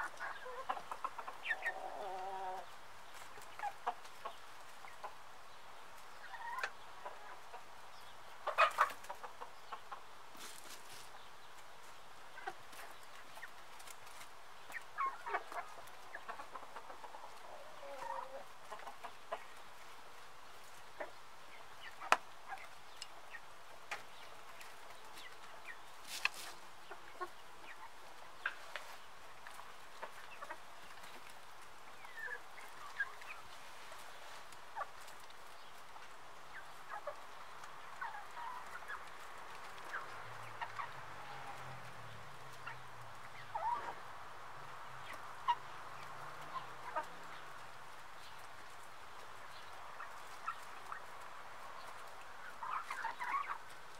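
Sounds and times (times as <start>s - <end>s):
beaks pecking grain: 0.0s - 53.9s
hens clucking: 0.0s - 53.9s.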